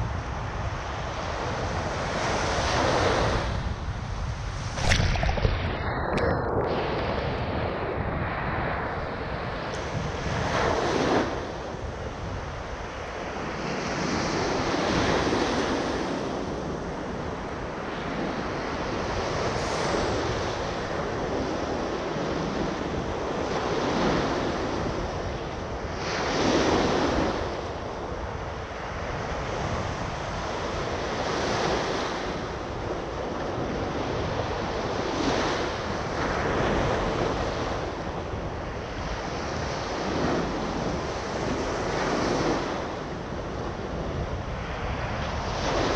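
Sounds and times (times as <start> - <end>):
waves breaking on sand: 0.0 - 45.9
wind buffeting microphone: 0.0 - 45.9.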